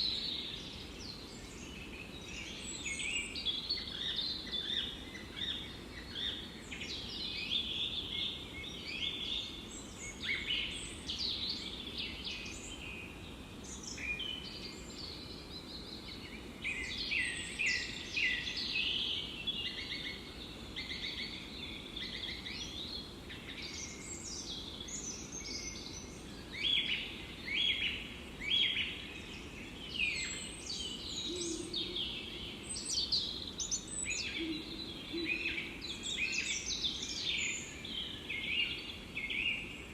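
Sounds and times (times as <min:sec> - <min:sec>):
birds singing and chirping: 0:00.0 - 0:39.9
low background hiss: 0:00.0 - 0:39.9.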